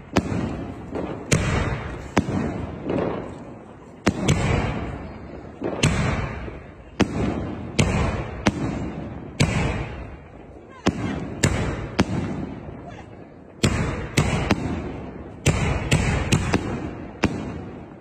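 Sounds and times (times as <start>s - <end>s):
fireworks bangs with hissing: 0.0s - 18.0s.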